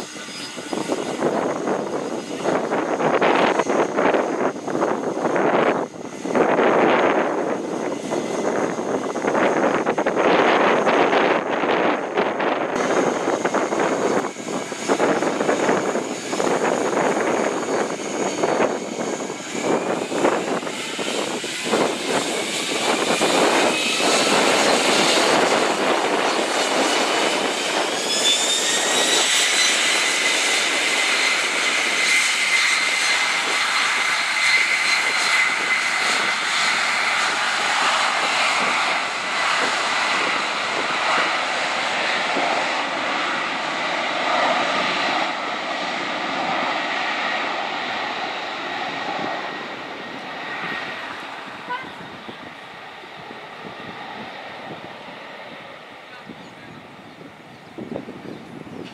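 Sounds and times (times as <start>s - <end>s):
jet engine whine: 0.0s - 58.9s
wind buffeting microphone: 0.0s - 58.9s.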